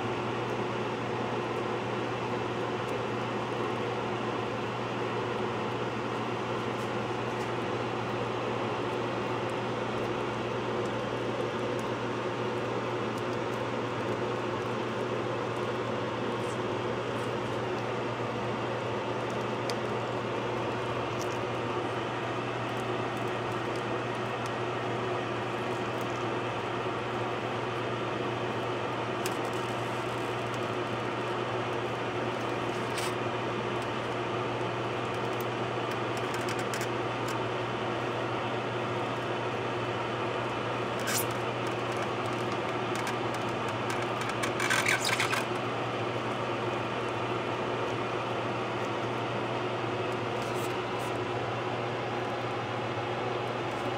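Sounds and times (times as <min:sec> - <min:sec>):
steady motor hum: 0:00.0 - 0:53.9.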